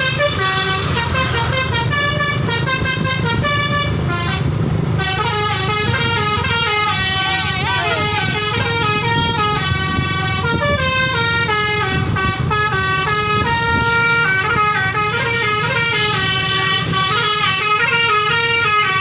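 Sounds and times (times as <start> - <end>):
musical bus horn melody: 0.0 - 19.0.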